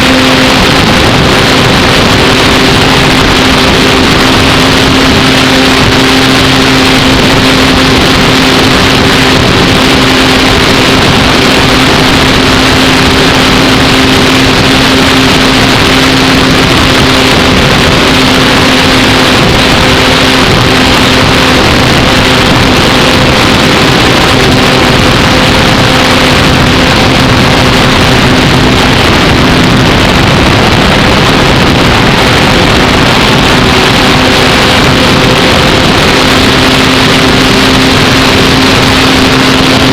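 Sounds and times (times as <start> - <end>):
model plane motor humming: 0.0 - 39.9
rushing wind noise: 0.0 - 39.9.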